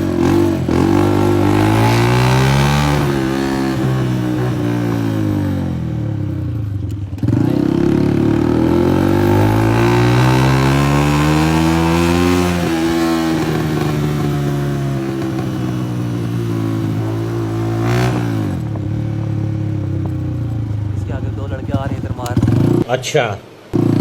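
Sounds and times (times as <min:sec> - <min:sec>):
loud motorcycle engine revving: 0:00.0 - 0:22.9, 0:23.8 - 0:24.0.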